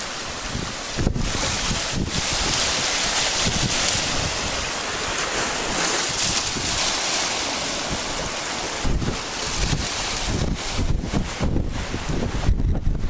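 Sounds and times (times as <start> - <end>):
sea surf breaking: 0.0 - 12.6
wind buffeting microphone: 0.0 - 13.0.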